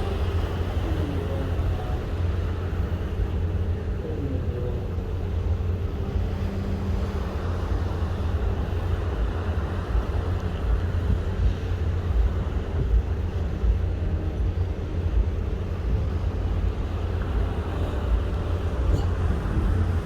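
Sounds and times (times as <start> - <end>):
faint hum: 0.0 - 20.0
wind buffeting microphone: 0.0 - 20.0.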